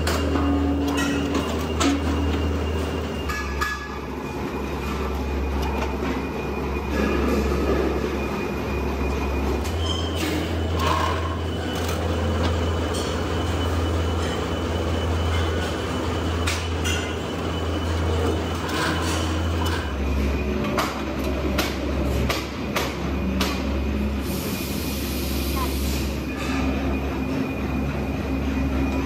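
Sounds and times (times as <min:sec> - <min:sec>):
bending machine humming: 0:00.0 - 0:29.0.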